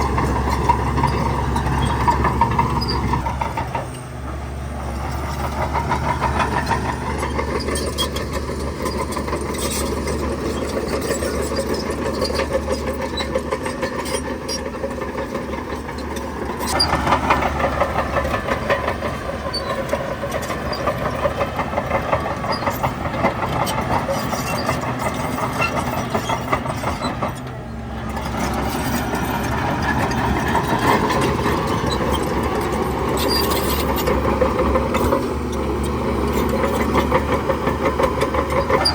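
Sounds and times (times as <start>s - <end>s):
heavy diesel machinery engine: 0.0s - 38.9s.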